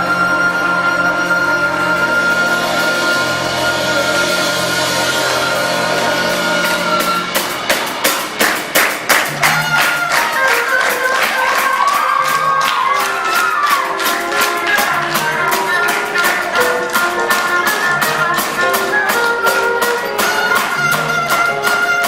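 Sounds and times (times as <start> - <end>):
school band chord: 0.0 - 22.0.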